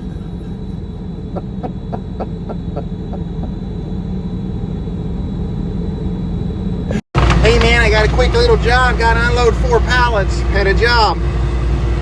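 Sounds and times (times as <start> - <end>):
engine low rumble: 0.0 - 12.0.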